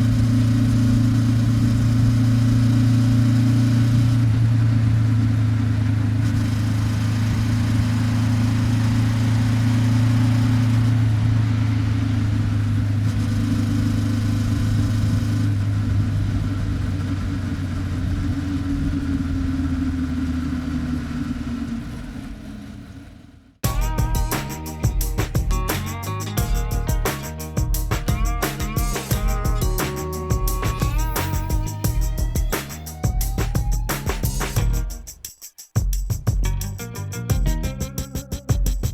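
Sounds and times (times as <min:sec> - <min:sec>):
motorcycle engine cruising: 0:00.0 - 0:35.1, 0:36.2 - 0:38.9.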